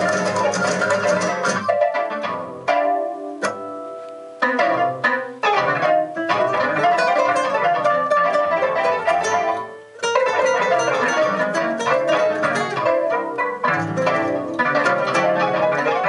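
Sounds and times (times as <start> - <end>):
plucked string-like notes: 0.0 - 16.0.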